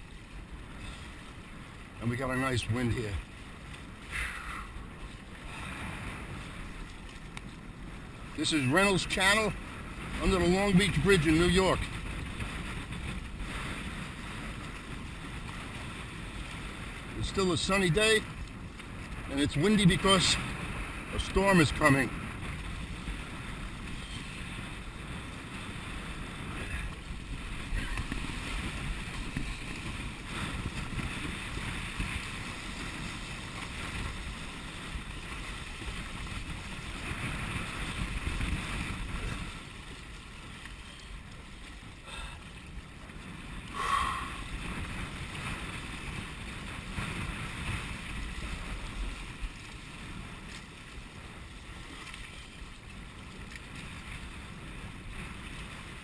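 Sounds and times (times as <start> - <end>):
water rushing past kayak: 0.0 - 56.0
wind rumbling on microphone: 0.0 - 56.0.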